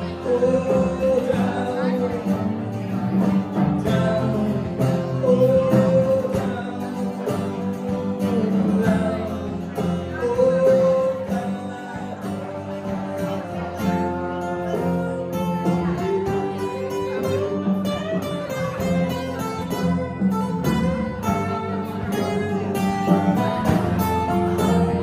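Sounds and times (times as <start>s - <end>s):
acoustic guitars: 0.0s - 25.0s
drum kit: 0.0s - 25.0s
electric bass: 0.0s - 25.0s
person singing: 0.0s - 25.0s.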